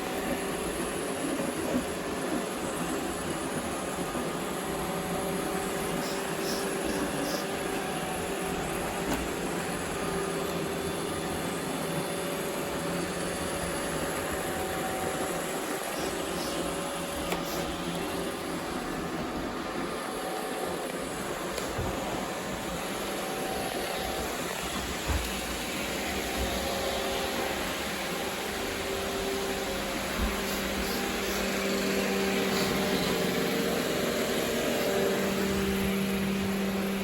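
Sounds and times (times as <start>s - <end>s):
robot vacuum cleaner whirring: 0.0s - 37.0s.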